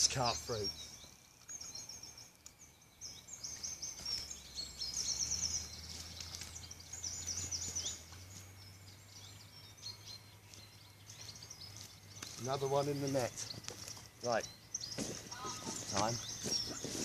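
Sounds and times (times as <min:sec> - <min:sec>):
songbirds singing trilled phrases: 0:00.0 - 0:17.0.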